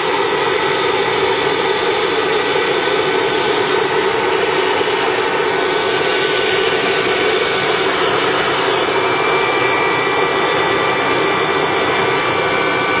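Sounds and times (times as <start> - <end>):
gas turbine whining: 0.0 - 13.0.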